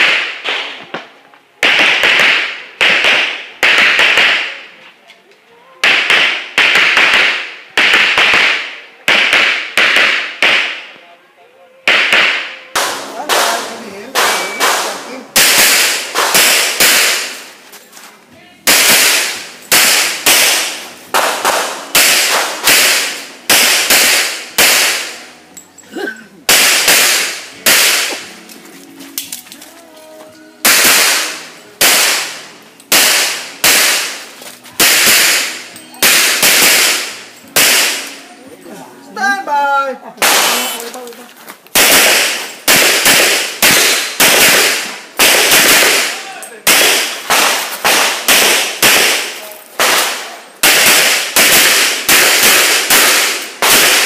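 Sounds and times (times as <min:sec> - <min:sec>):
pistol shots with echo: 0:00.0 - 0:04.8, 0:05.8 - 0:11.0, 0:11.9 - 0:17.5, 0:18.6 - 0:25.3, 0:26.5 - 0:28.3, 0:30.6 - 0:38.2, 0:40.2 - 0:40.8, 0:41.8 - 0:54.0.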